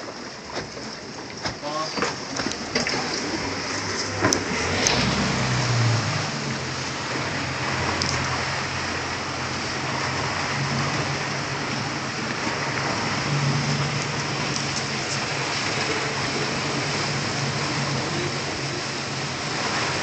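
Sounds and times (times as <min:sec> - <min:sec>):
motorboat engine hum: 0:00.0 - 0:20.0
water rushing: 0:00.0 - 0:20.0.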